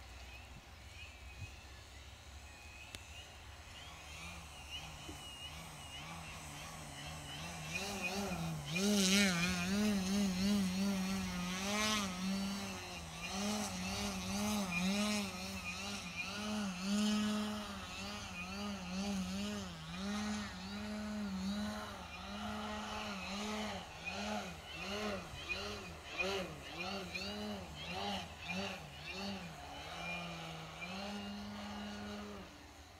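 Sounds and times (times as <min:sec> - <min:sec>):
model plane motor whining: 0:00.0 - 0:32.9.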